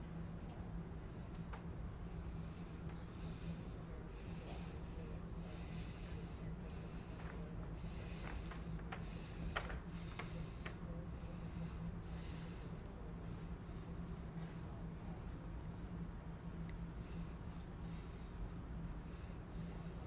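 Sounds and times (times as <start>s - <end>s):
steady low hum: 0.0s - 20.0s
soft breathing: 0.2s - 20.0s.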